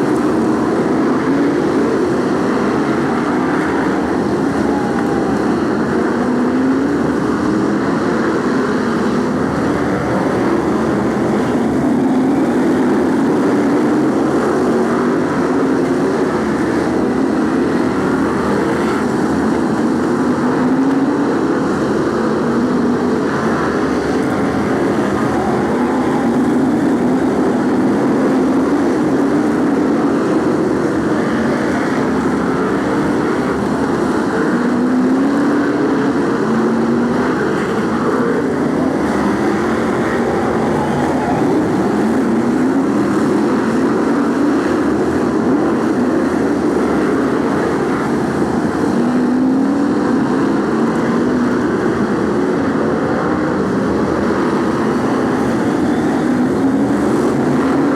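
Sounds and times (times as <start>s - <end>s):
racing car engines: 0.0s - 57.9s.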